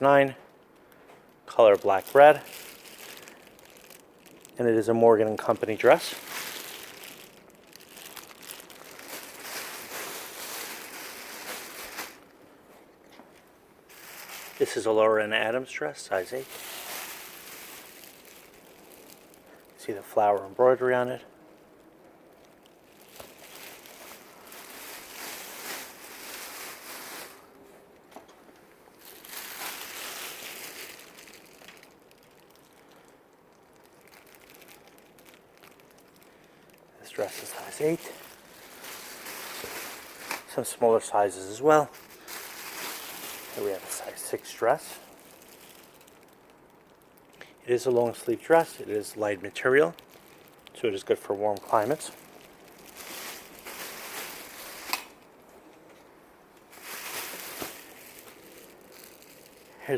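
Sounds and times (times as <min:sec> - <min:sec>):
rustling and crinkling of garments: 0:00.0 - 0:59.9.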